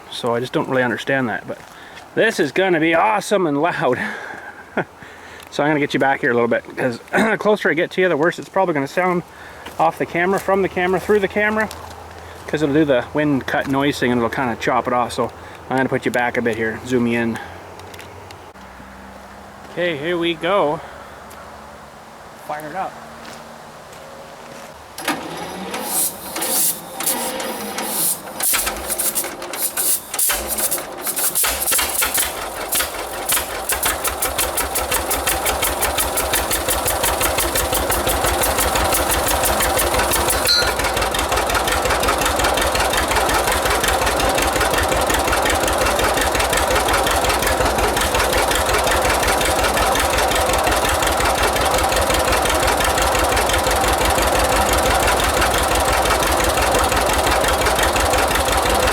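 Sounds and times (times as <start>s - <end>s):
tractor engine starting and running: 0.0s - 6.3s, 9.0s - 20.7s, 24.9s - 58.9s.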